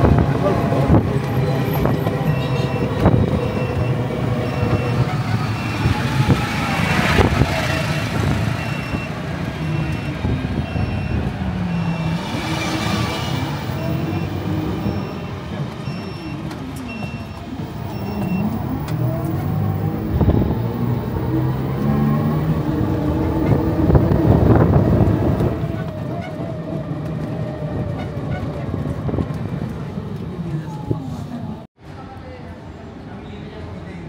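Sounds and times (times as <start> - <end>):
vehicle engine and road noise: 0.0 - 32.2
passing traffic: 0.0 - 34.0.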